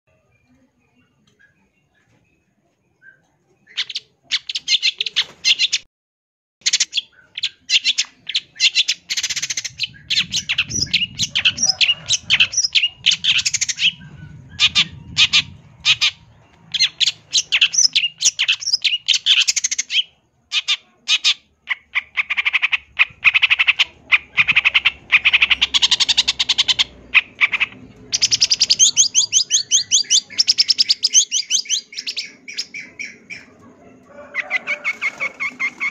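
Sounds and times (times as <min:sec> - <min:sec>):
bird chattering song: 0:00.4 - 0:05.8, 0:06.6 - 0:33.7, 0:34.4 - 0:35.9.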